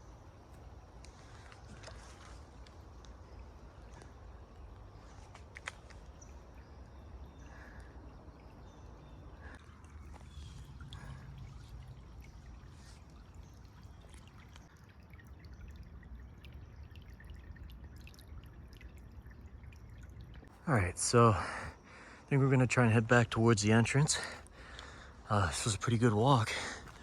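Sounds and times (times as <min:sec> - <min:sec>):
stream trickling: 0:00.0 - 0:27.0.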